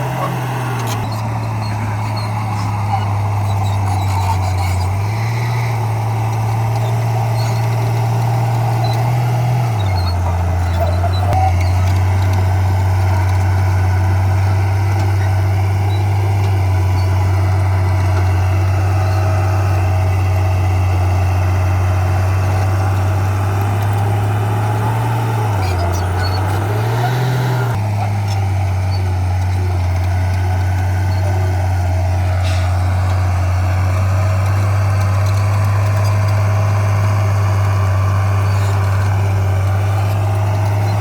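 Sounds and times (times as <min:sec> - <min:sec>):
heavy diesel engine drone: 0:00.0 - 0:41.0.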